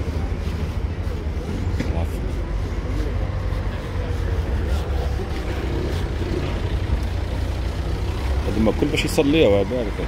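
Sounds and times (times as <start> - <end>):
car moving off slowly: 0.0 - 10.0
crowd of people chatting: 0.0 - 10.0.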